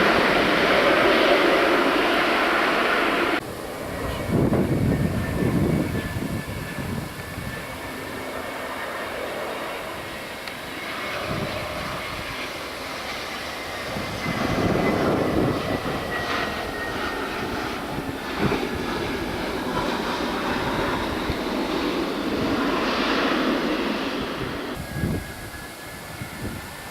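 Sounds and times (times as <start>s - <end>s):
jet engines running with whine: 0.0s - 26.9s.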